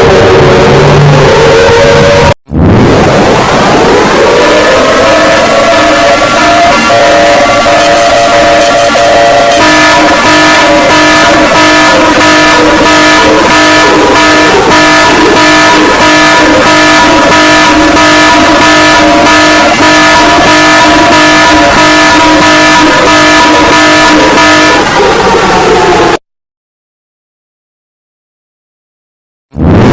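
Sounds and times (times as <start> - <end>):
distorted pulsing alarm tones: 0.0 - 26.2.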